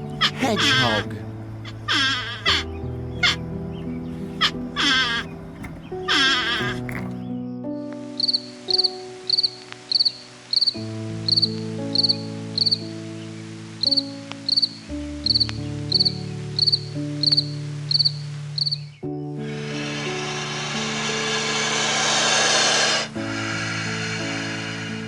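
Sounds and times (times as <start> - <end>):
high insect chirps: 0.0 - 7.3, 8.1 - 13.0, 13.8 - 25.0
background music with held notes: 0.0 - 25.0.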